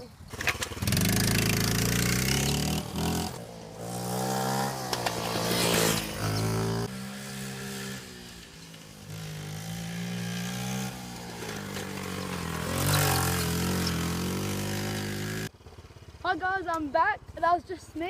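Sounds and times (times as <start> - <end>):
minibike engine revving: 0.1 - 16.1.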